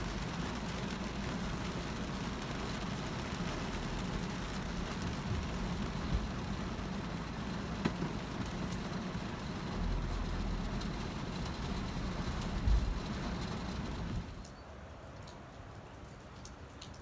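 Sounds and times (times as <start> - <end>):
car hum: 0.0 - 14.4
windshield wiper sweeping: 0.0 - 14.4
rain on a car: 0.0 - 17.0.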